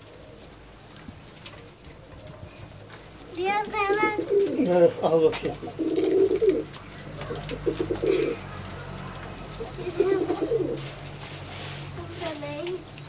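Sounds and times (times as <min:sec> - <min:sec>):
pigeons cooing: 0:00.0 - 0:11.7.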